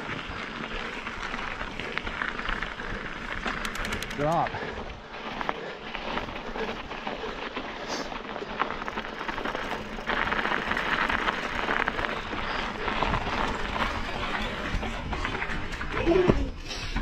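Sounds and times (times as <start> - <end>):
bike rattles: 0.0 - 17.0
bike tyre noise on sand: 0.0 - 17.0.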